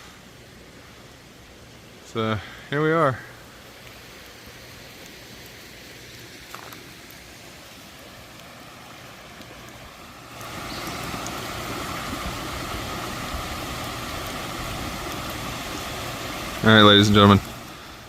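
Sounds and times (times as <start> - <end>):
rushing storm water: 0.0 - 18.0.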